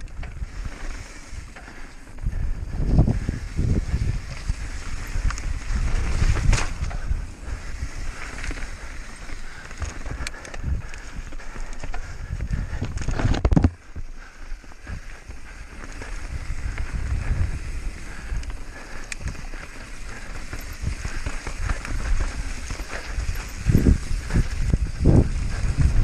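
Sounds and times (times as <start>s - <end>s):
bike rattling: 0.0s - 26.0s
bike tyres on dirt and rock: 0.0s - 26.0s.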